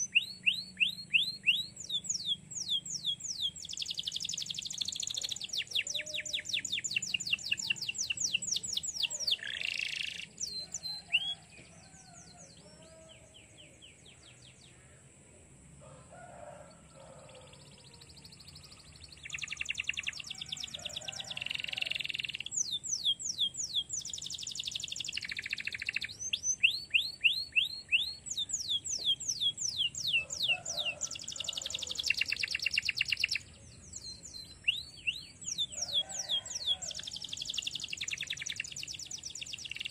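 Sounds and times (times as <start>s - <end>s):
canary singing trills: 0.0s - 14.6s, 16.4s - 39.9s.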